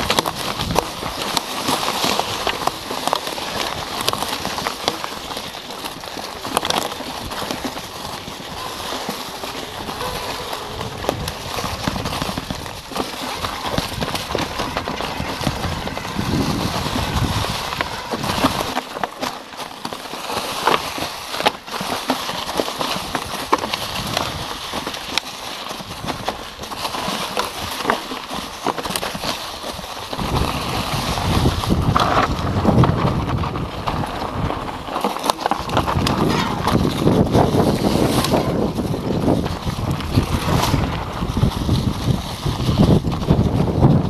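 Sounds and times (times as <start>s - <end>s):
bike clattering over bumps: 0.0s - 44.0s
tyres crunching over leaves: 0.0s - 44.0s.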